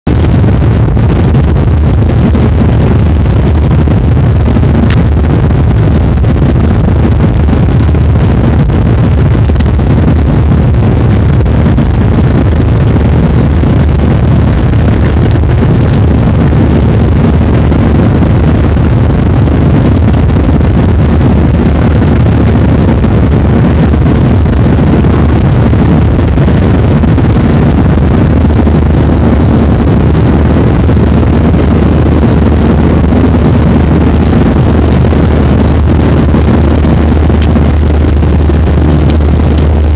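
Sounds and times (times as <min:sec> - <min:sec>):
airplane engines rumbling: 0:00.0 - 0:39.9.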